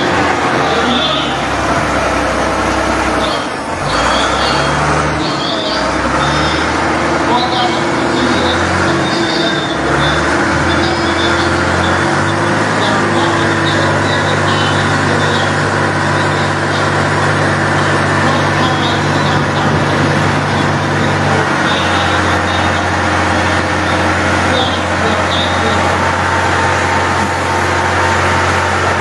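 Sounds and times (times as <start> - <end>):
road noise: 0.0 - 29.0
vehicle engine hum: 0.0 - 29.0.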